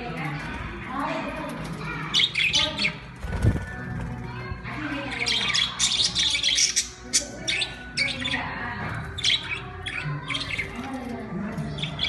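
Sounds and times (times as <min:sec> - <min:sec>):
budgies chirping and squawking: 0:00.0 - 0:12.0.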